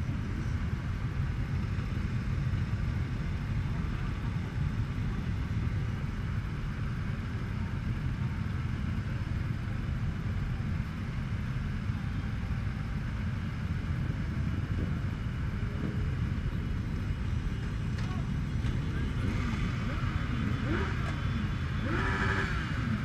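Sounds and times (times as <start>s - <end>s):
many motorcycle engines idling: 0.0s - 23.0s.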